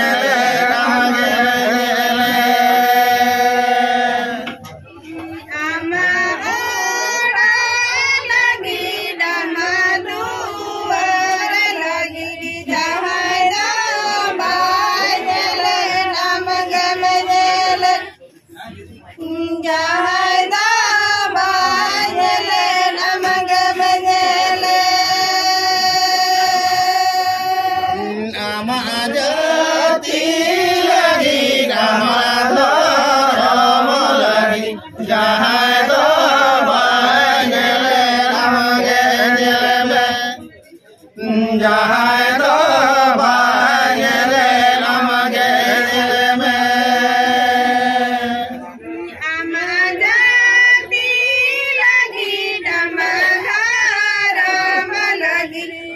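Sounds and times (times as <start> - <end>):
group of people singing: 0.0 - 55.9.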